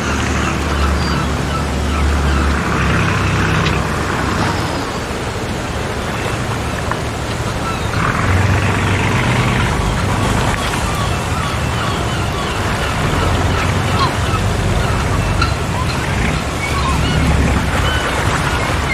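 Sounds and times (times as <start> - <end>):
distant voices: 0.0 - 18.9.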